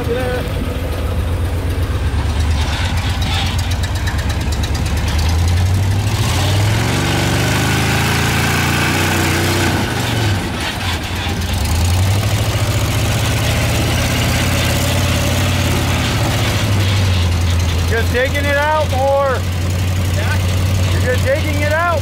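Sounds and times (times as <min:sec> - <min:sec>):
buggy engine revving: 0:00.0 - 0:22.0.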